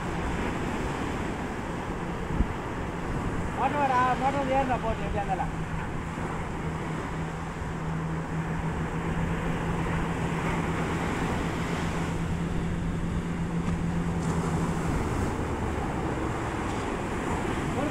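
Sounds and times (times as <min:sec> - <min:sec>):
boat engine humming: 0:00.0 - 0:17.9
breaking surf: 0:00.0 - 0:17.9
wind: 0:00.0 - 0:17.9.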